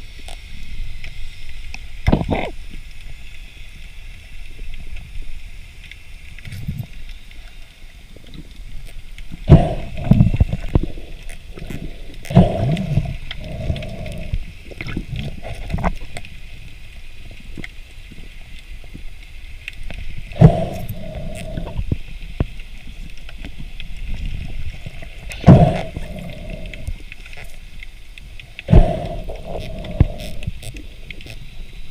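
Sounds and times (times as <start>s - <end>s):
underwater rush of water: 0.0s - 31.9s.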